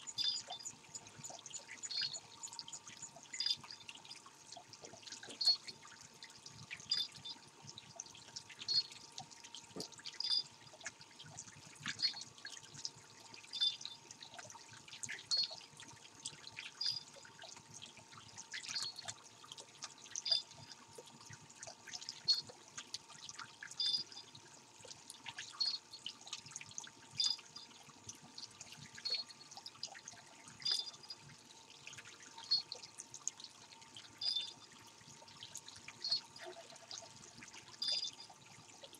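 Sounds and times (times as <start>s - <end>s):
faint steady hum: 0.0s - 38.9s
water trickling: 0.0s - 38.9s.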